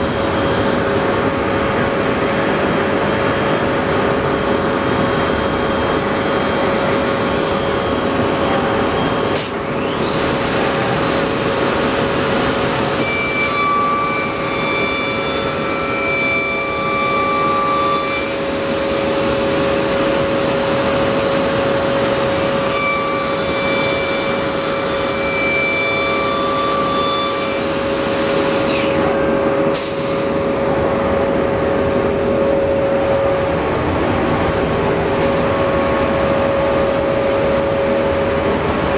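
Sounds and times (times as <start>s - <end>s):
machine spindle hum and whine: 0.0s - 38.9s.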